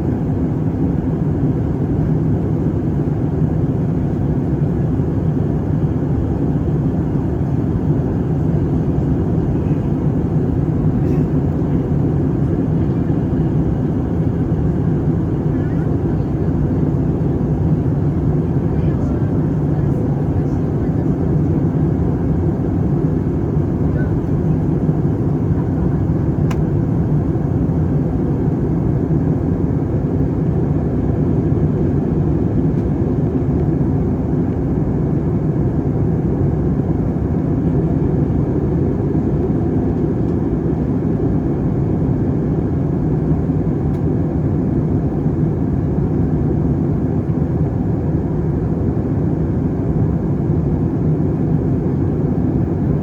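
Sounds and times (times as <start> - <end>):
jet airliner cabin drone: 0.0 - 53.0.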